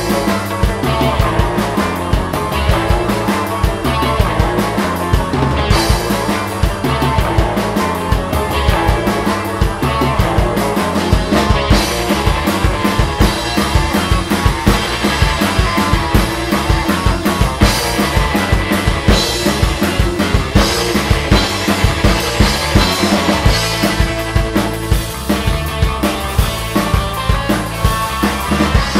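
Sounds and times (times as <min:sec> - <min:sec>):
fast drum beat: 0:00.0 - 0:28.9
punk rock band playing: 0:00.0 - 0:28.9.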